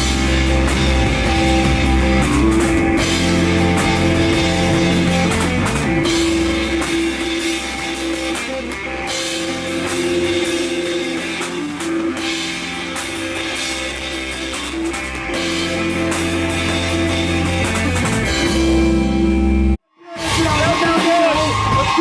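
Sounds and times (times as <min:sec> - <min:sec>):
drum kit: 0:00.0 - 0:19.4, 0:20.2 - 0:22.0
bass guitar: 0:00.0 - 0:22.0
distorted electric guitar: 0:00.0 - 0:22.0.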